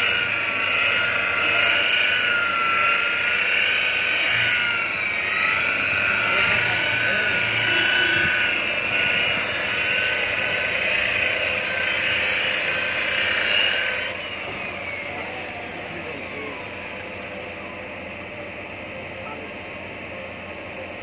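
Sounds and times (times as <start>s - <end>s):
electric polisher whining: 0.0s - 21.0s.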